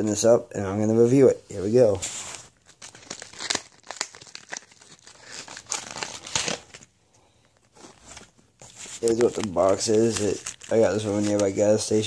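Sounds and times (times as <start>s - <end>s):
packaging crinkling and rustling: 2.0s - 12.0s.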